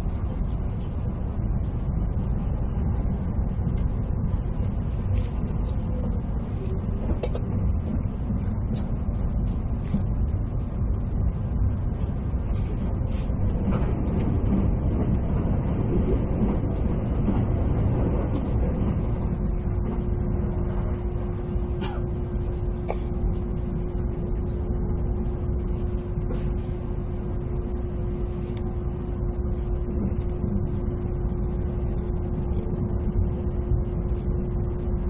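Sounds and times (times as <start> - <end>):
low rumble of running train: 0.0 - 35.0
steady hum: 0.0 - 35.0.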